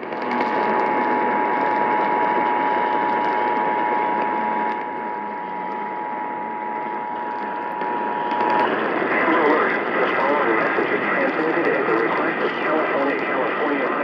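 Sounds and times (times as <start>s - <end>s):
radio static hiss: 0.1s - 14.0s.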